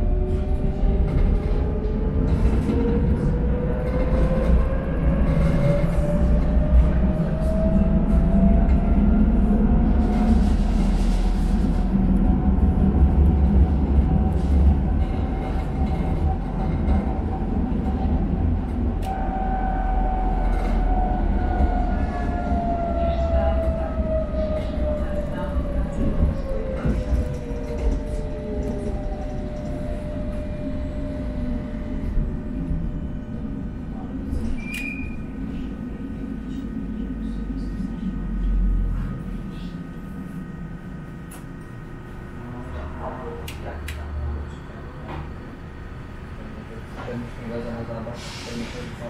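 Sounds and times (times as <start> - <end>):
tram motors whining: 0.0 - 49.0
wheels rumbling on rails: 0.0 - 49.0.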